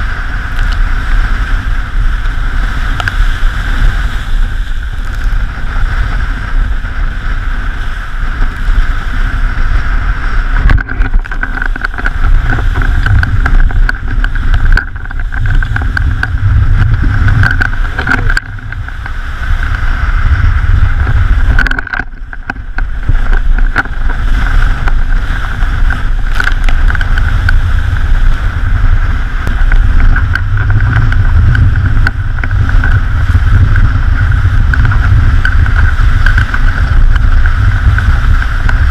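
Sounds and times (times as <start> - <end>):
constant high hum: 0.0 - 38.9
water rushing along hull: 0.0 - 38.9
wind buffeting microphone: 0.0 - 38.9.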